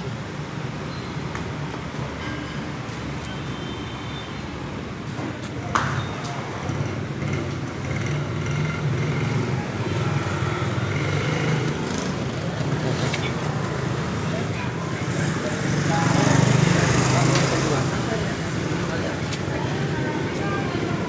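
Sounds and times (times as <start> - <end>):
road traffic engines running: 0.0 - 21.0.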